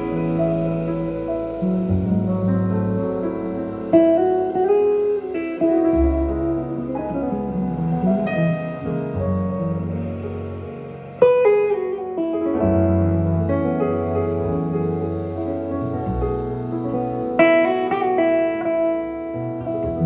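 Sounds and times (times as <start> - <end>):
guitar picking a melody: 0.0 - 20.0
jazz over loudspeakers: 0.0 - 20.0
piano: 0.0 - 20.0.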